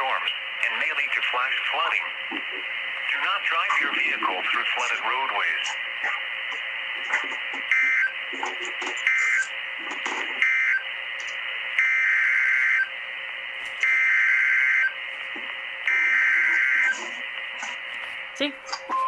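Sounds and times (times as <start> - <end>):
radio hiss: 0.0 - 11.8, 14.9 - 18.9
radio alert data tones: 0.0 - 13.0, 13.8 - 19.0.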